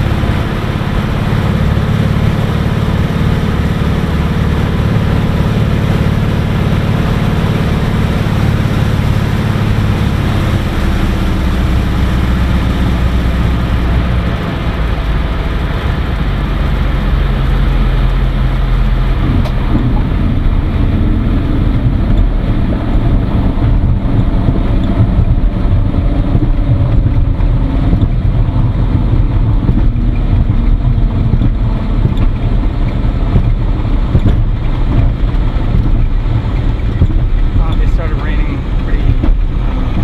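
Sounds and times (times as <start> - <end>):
propeller plane engine in cockpit: 0.0 - 40.0.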